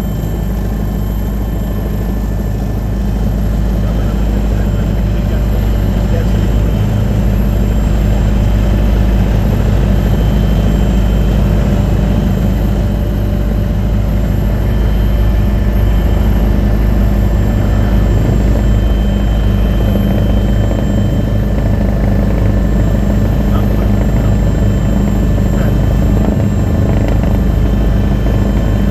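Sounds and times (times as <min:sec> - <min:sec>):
helicopter rotor and engine drone: 0:00.0 - 0:28.9.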